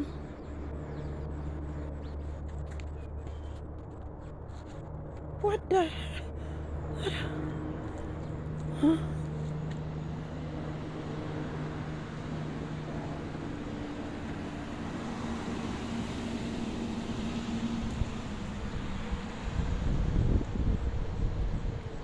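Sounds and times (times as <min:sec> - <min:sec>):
low engine-like drone: 0:00.0 - 0:22.0.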